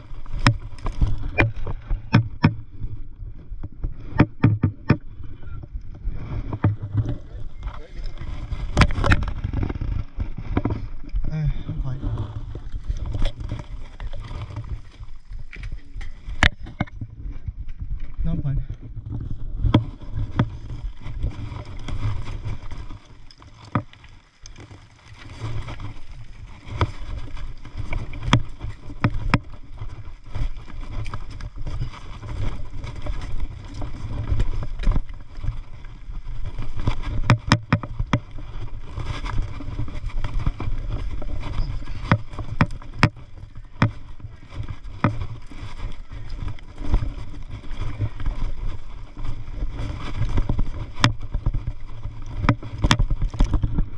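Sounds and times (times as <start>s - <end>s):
bike rattling over bumps: 0.0s - 53.9s.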